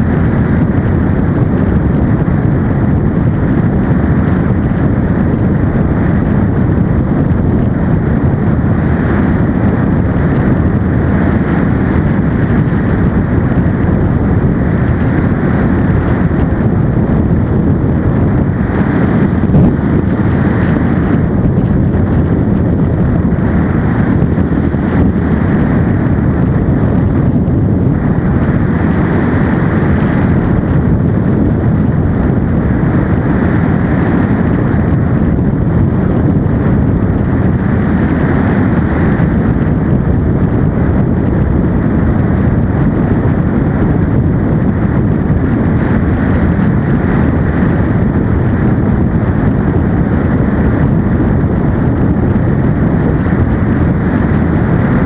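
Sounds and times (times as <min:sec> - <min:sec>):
ultralight engine and propeller: 0:00.0 - 0:55.0
wind rushing over microphone: 0:00.0 - 0:55.0.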